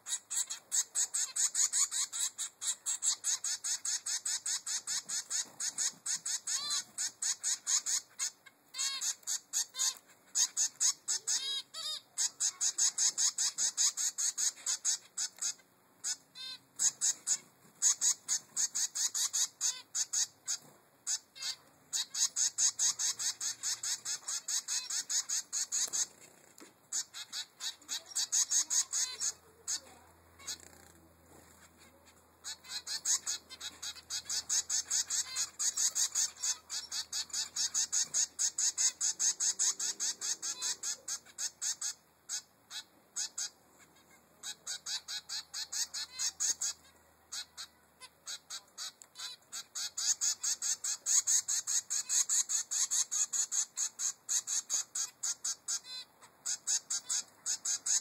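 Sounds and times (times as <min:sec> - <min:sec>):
finch fledgling begging calls: 0:00.0 - 0:58.0.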